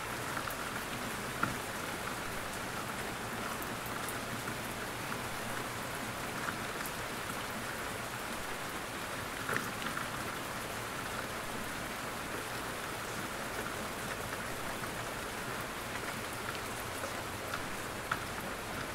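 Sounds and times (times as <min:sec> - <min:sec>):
rain-like hiss: 0:00.0 - 0:18.9.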